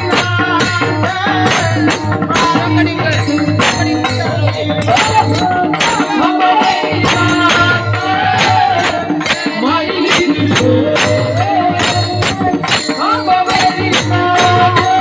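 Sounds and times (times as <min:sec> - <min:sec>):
jingling percussion beat: 0:00.0 - 0:15.0
wavering devotional melody: 0:00.0 - 0:15.0.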